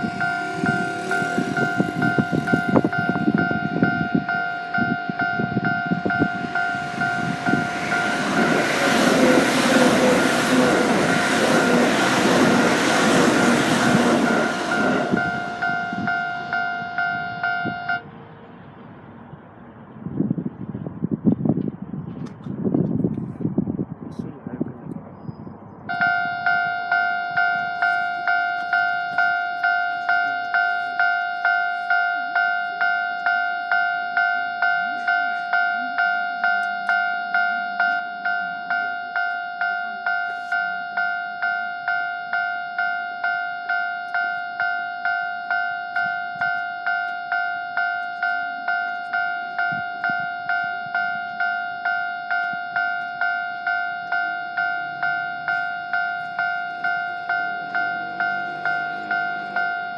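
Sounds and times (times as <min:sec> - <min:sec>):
level crossing warning bell dinging: 0:00.0 - 0:18.1, 0:25.9 - 0:59.9.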